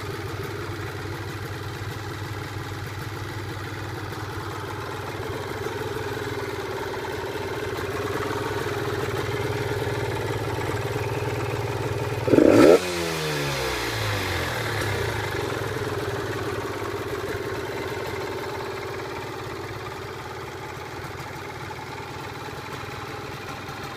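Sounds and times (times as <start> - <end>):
two-stroke engine idling: 0.0 - 23.9.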